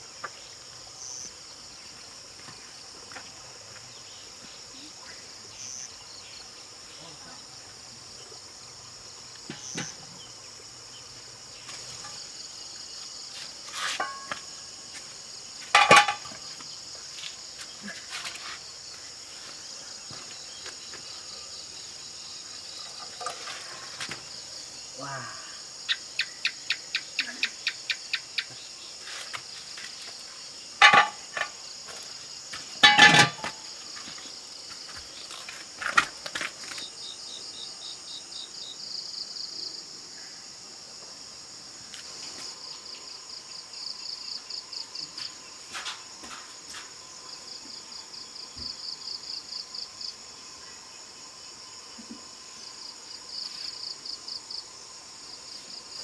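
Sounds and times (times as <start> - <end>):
steady high insect buzz: 0.0 - 32.8, 33.4 - 56.0
crickets chirping: 0.0 - 56.0.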